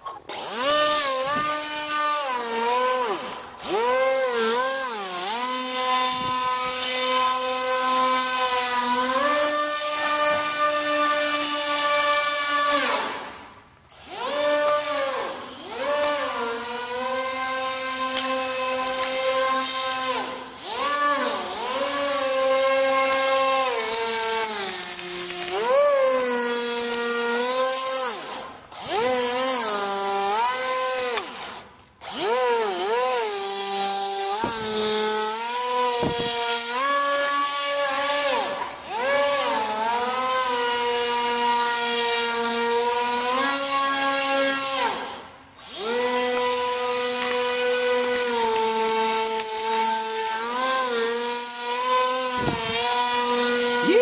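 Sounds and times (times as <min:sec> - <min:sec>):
electric motor and propeller whining: 0:00.0 - 0:54.0.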